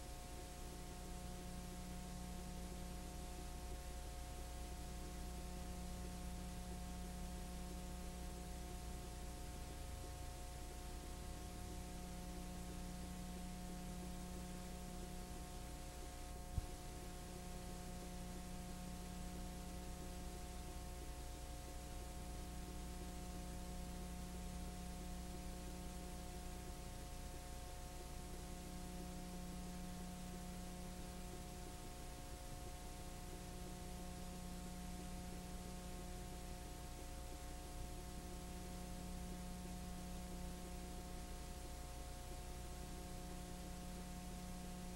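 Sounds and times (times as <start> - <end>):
electrical hum: 0.0 - 44.9.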